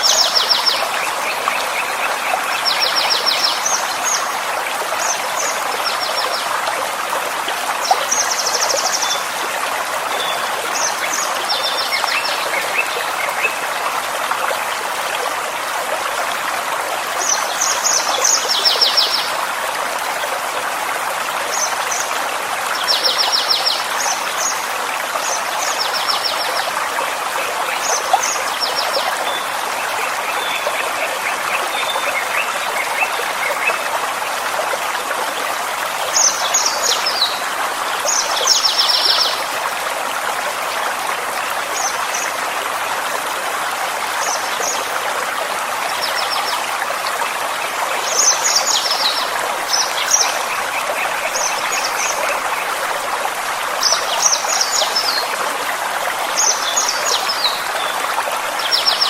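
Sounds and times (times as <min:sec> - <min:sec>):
forest stream running: 0:00.0 - 0:59.0.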